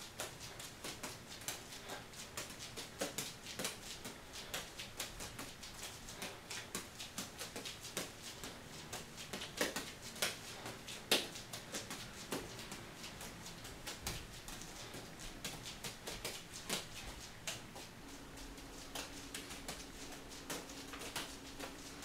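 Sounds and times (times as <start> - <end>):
juggling balls slapping hands: 0.0 - 22.0.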